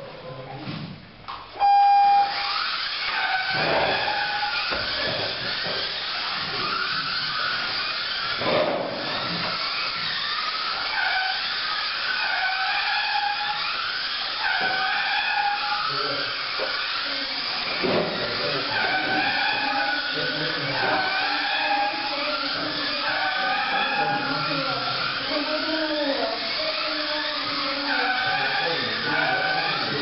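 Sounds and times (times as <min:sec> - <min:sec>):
electric motor whines: 0:01.6 - 0:30.0.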